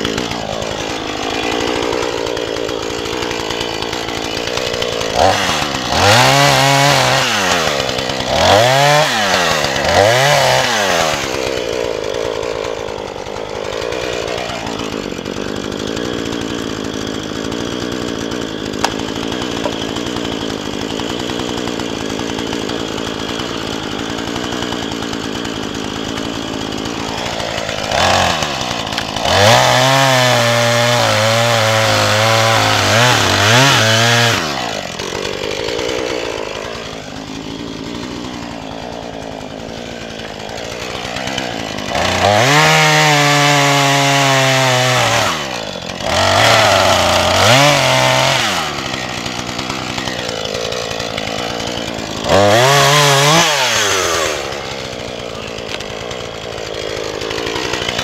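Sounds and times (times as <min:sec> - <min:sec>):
chainsaw revving and cutting log: 0:00.0 - 0:58.0.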